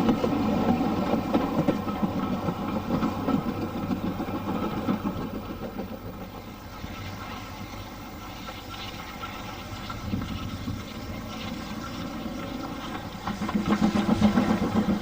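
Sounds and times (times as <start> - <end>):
train engine pulsing: 0.0 - 15.0.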